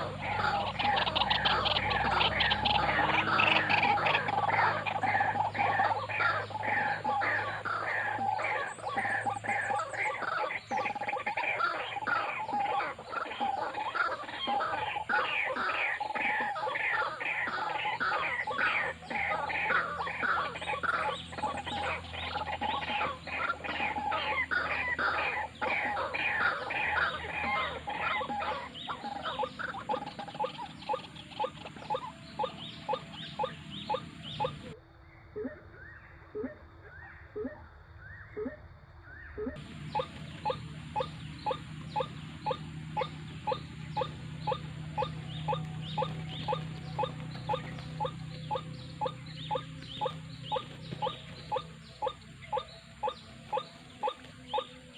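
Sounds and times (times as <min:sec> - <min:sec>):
waterhens croaking calls: 0:00.0 - 0:34.8, 0:39.2 - 0:54.9.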